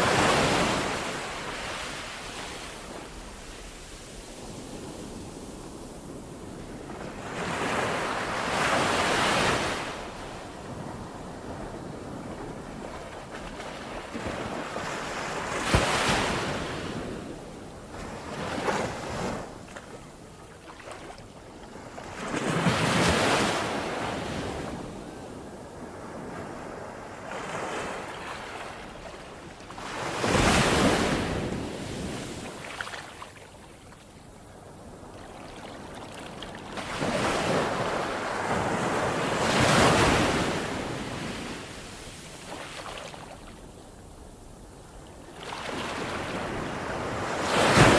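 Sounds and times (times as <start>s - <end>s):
ocean waves breaking on shore: 0.0s - 47.9s.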